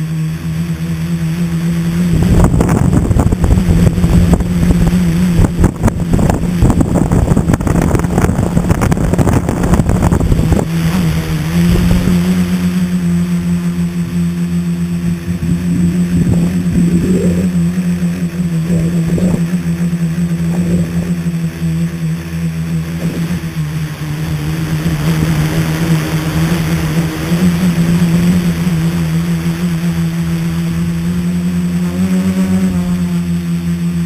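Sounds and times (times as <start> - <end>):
drone motors and propellers droning: 0.0 - 34.0.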